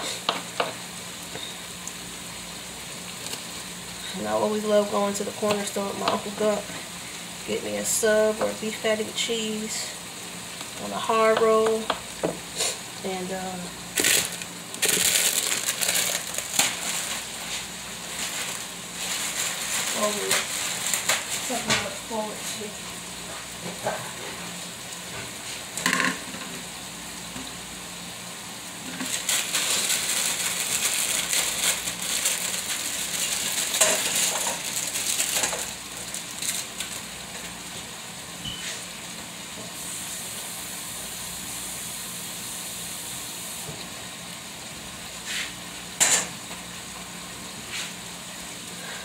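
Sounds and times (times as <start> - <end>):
meat sizzling in a frying pan: 0.0 - 49.0.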